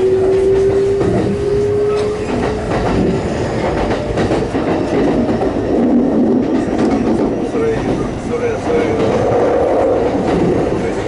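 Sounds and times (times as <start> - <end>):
train inverter whine: 0.0 - 11.0
train rumble: 0.0 - 11.0
wheels clicking on rail joints: 0.0 - 11.0.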